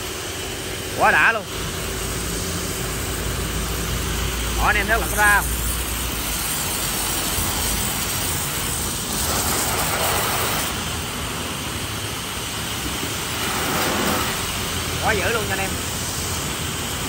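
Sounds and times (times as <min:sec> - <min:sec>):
pressure washer pump hum: 0:00.0 - 0:17.0
pressure washer spray hissing: 0:00.0 - 0:17.0.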